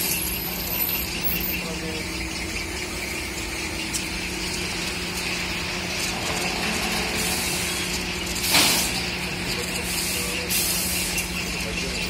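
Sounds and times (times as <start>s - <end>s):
conveyor and factory machinery hum: 0.0s - 12.0s.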